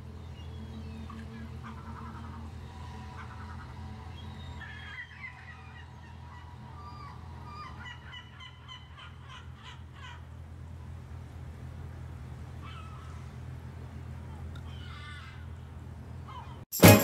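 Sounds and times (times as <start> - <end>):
steady low hum: 0.0 - 4.6, 5.6 - 16.6
bird cries: 0.0 - 10.6, 12.5 - 13.5, 14.3 - 16.6.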